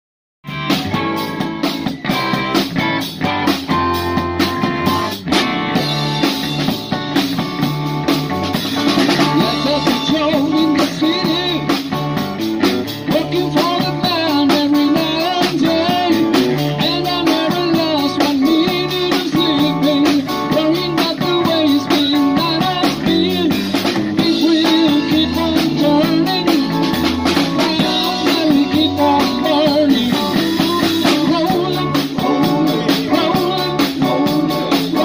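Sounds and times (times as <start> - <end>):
blues band playing: 0.4 - 35.0
drum kit beat: 0.4 - 35.0
electric guitars: 0.4 - 35.0.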